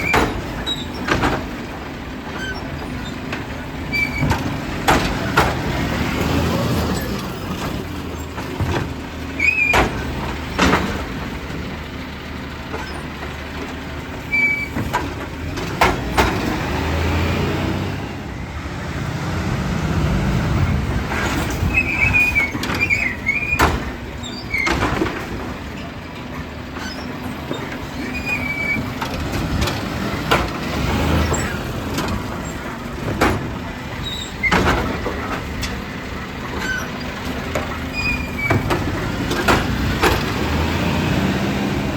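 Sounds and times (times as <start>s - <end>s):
sharp clanks and knocks: 0.0s - 6.4s, 7.0s - 11.7s, 12.7s - 17.0s, 21.0s - 40.8s
garbage truck engine running: 0.0s - 41.9s.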